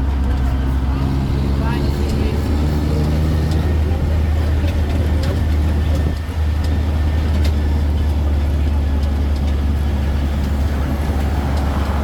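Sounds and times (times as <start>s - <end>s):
train rumbling in motion: 0.0s - 12.0s.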